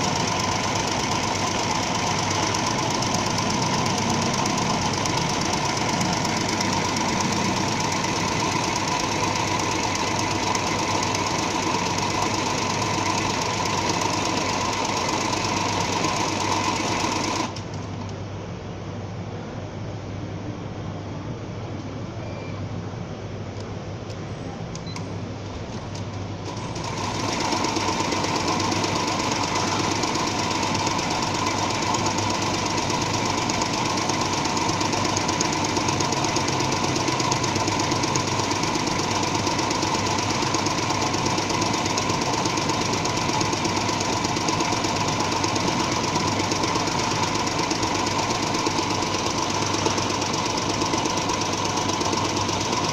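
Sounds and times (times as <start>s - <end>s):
embroidery machine stitching: 0.0s - 17.7s, 26.4s - 52.9s.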